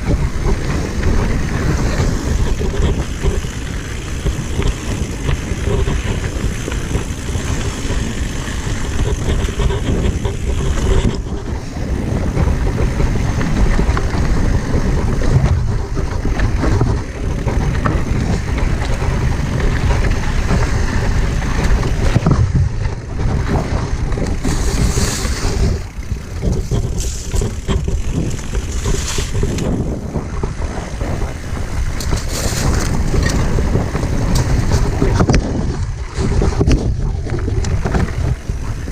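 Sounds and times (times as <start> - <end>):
bike knocks and rattles: 0.0 - 38.9
steady rumble: 0.0 - 38.9
wind buffeting microphone: 0.0 - 38.9.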